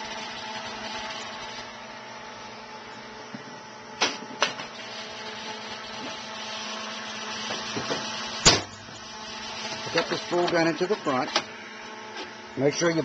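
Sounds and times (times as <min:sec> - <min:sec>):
welder humming: 0:00.0 - 0:13.0.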